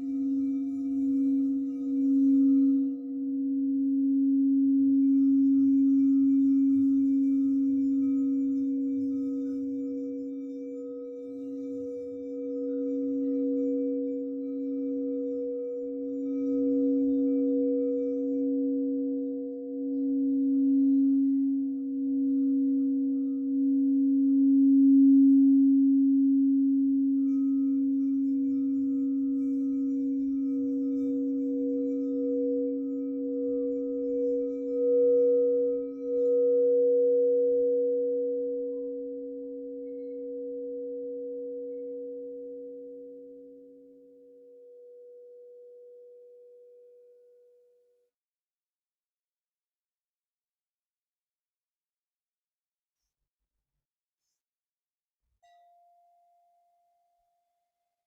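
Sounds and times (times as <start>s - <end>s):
singing bowl ringing: 0.0s - 47.3s, 55.4s - 57.3s.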